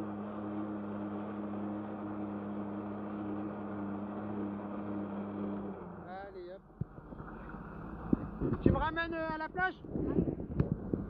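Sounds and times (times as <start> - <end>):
jet ski engine at high revs: 0.0 - 9.1.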